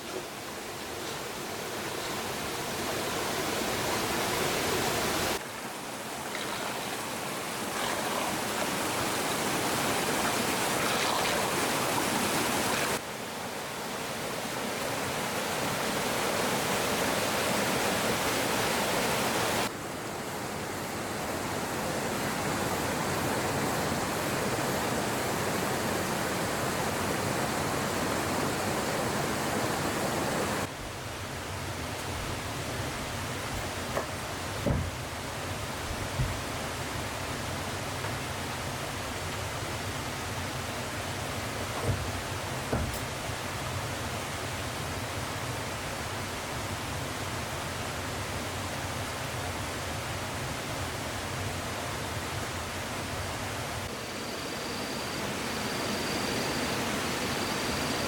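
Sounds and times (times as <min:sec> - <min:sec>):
stream water rushing and splashing: 0:00.0 - 0:58.0.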